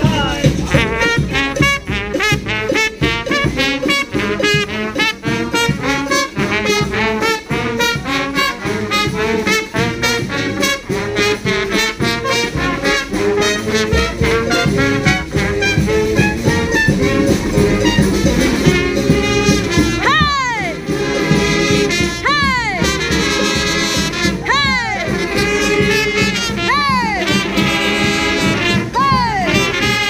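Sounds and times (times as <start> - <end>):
brass band horns playing: 0.0 - 30.0
steady drum beat: 0.0 - 30.0.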